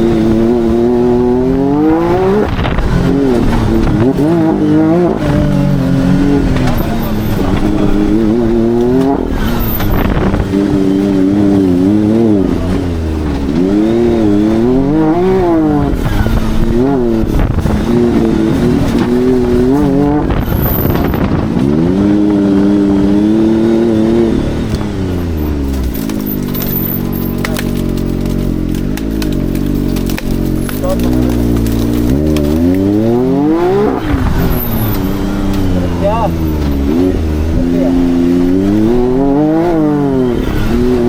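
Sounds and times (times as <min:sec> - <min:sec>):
engine revving hard: 0:00.0 - 0:41.0.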